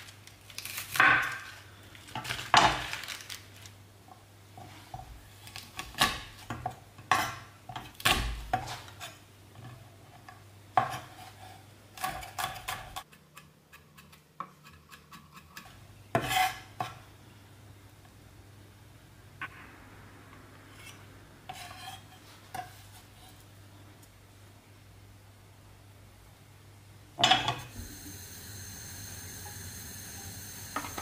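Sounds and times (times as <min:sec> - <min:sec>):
faint steady hum: 0:03.1 - 0:31.0.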